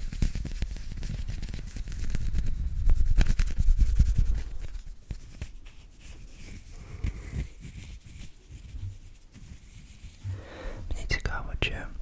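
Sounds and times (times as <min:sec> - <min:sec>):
fingers rubbing microphone grille: 0:00.0 - 0:10.4
soft hand rustles: 0:00.0 - 0:12.0.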